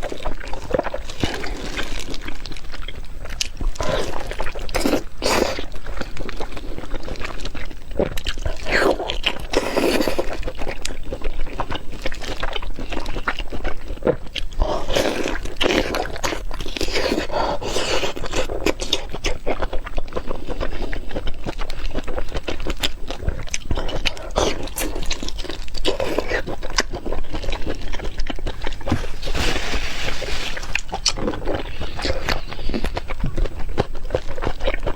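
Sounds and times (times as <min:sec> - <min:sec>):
person chewing and crunching: 0:00.0 - 0:34.9.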